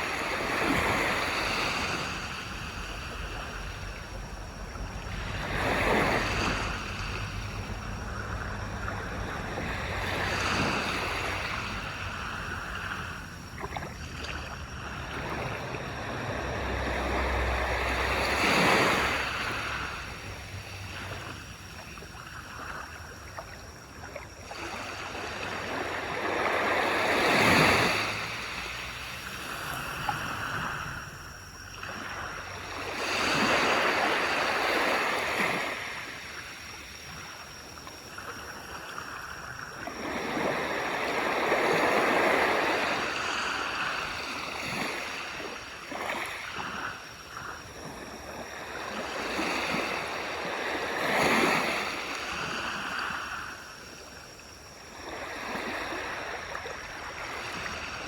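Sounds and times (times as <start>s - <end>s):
sea waves breaking on beach: 0.0s - 58.0s.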